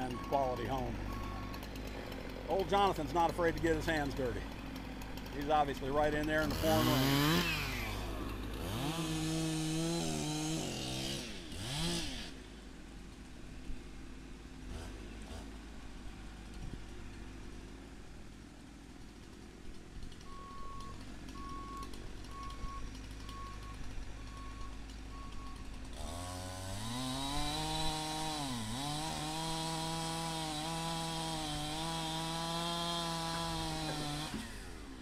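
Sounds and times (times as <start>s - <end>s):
chainsaw cutting wood: 0.0s - 12.5s, 14.6s - 16.8s, 18.4s - 35.0s.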